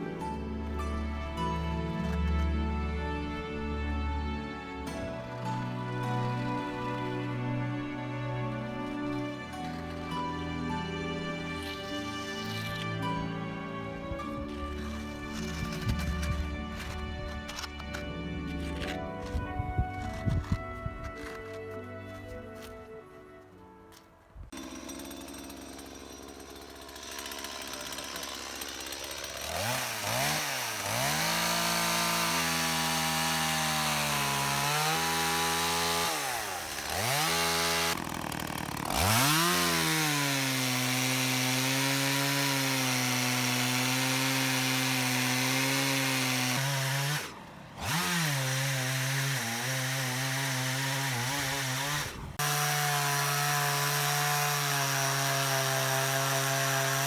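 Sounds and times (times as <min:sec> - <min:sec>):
chainsaw cutting wood: 0:00.0 - 0:22.8, 0:24.5 - 0:57.0.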